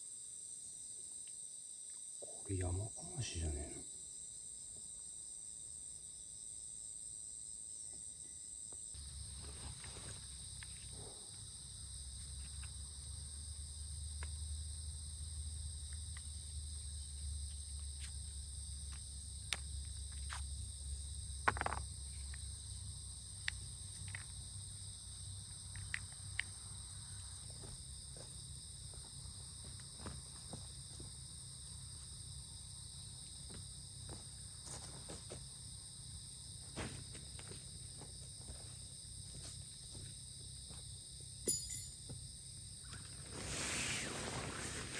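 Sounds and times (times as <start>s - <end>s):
insect chorus chirring: 0.0s - 44.9s.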